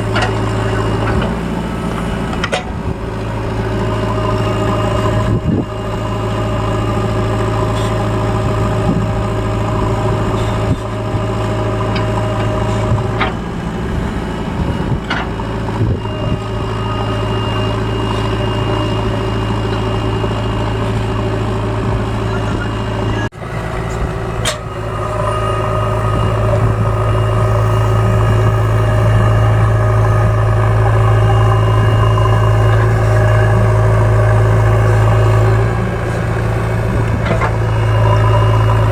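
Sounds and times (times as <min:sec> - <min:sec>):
large diesel engine running: 0:00.0 - 0:38.9.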